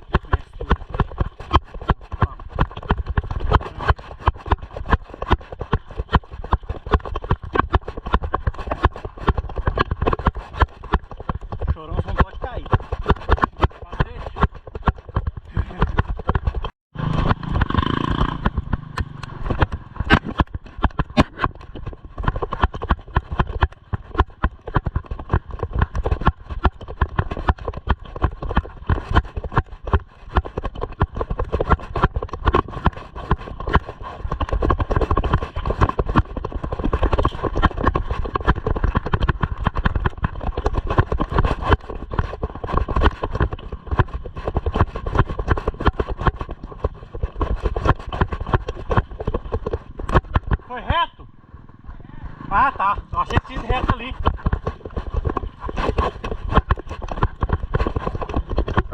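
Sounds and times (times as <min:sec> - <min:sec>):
bike rattling on dirt trail: 0:00.0 - 0:58.9.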